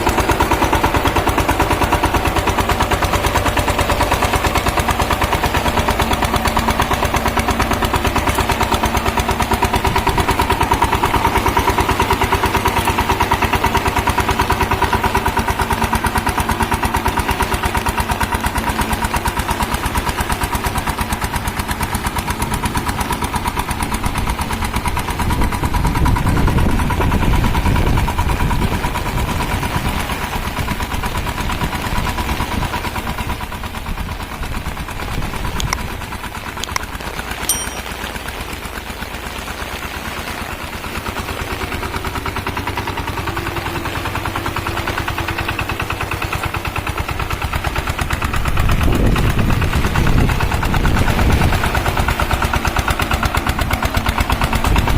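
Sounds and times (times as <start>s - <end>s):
diesel engine running steadily: 0.0s - 54.9s.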